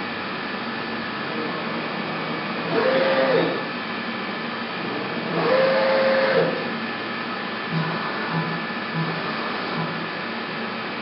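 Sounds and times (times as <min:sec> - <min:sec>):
machine feed drive whine: 0:00.0 - 0:11.0
steady machine hum: 0:00.0 - 0:11.0.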